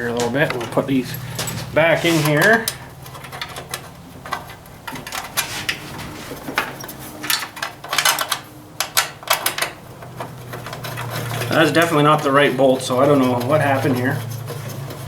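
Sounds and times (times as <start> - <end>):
metal bolts clinking: 0.0 - 15.0.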